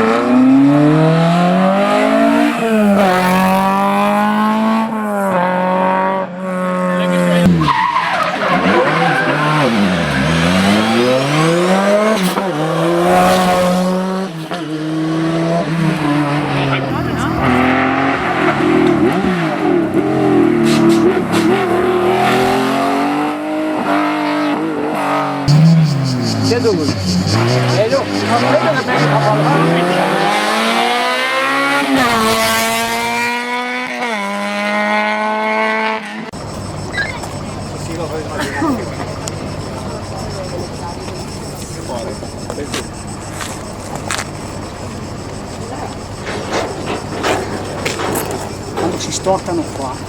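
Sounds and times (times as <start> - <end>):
rally car engine revving: 0.0 - 50.0.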